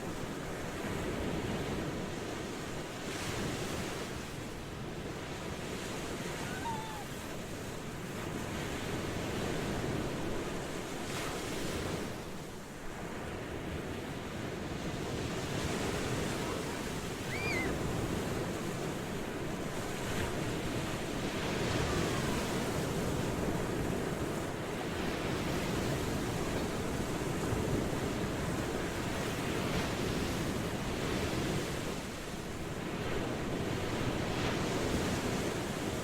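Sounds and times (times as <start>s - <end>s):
ocean waves washing ashore: 0.0s - 36.0s.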